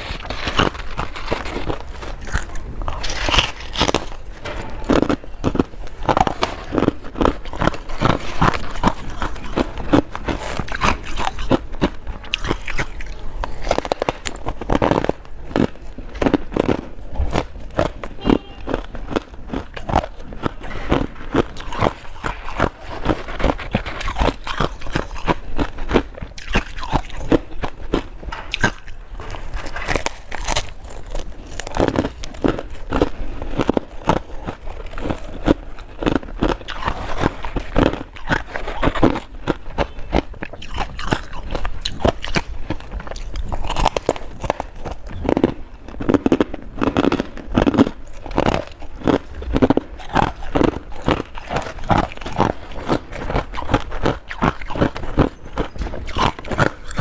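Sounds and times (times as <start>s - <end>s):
person chewing crunchy ice: 0.0s - 57.0s.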